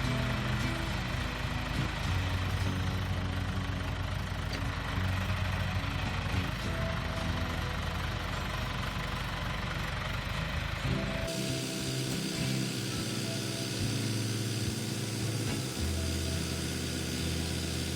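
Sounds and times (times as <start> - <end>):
backhoe diesel engine idling: 0.0 - 17.9.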